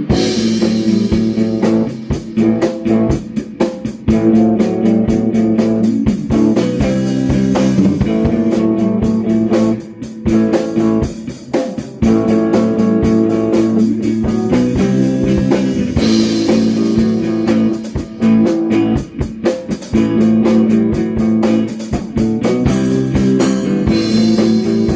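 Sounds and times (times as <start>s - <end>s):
drum kit: 0.0s - 24.9s
guitar chords ringing: 0.0s - 24.9s
live rock band playing: 0.0s - 24.9s.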